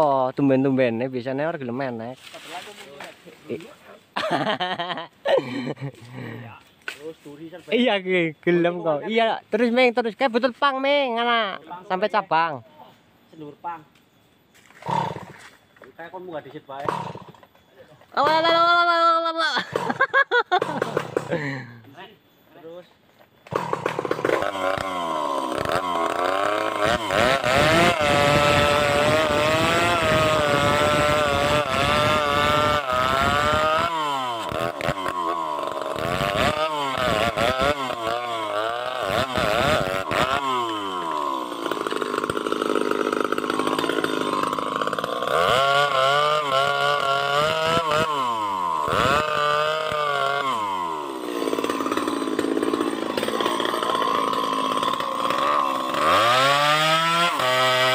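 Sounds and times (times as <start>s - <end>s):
chainsaw cutting: 0.0s - 10.7s, 14.6s - 15.7s, 16.4s - 17.6s, 18.2s - 21.8s, 23.4s - 57.9s.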